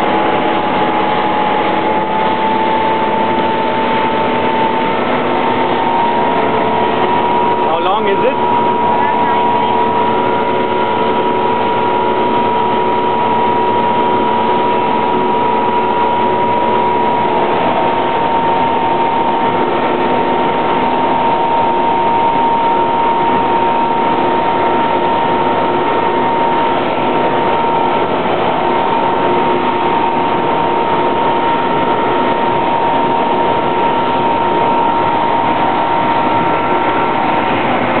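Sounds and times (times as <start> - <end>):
boat motor running: 0.0 - 38.0
high mechanical whine: 0.0 - 38.0.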